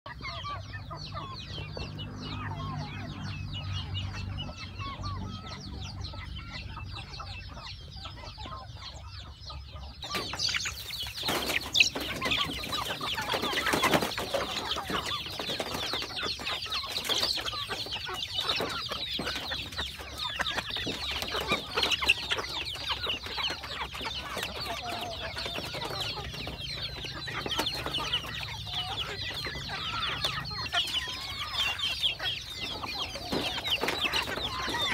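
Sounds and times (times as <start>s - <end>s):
chicks clucking and chirping: 0.1s - 34.9s.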